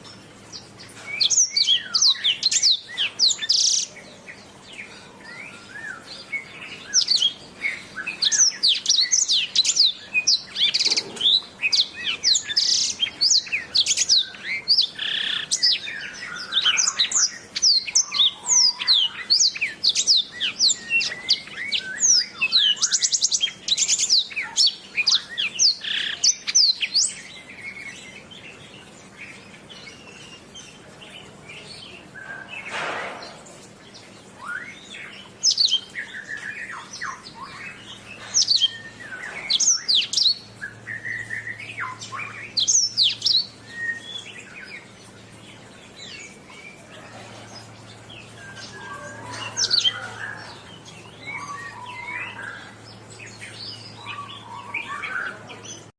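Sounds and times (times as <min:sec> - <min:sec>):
canary singing: 0:00.0 - 0:55.9.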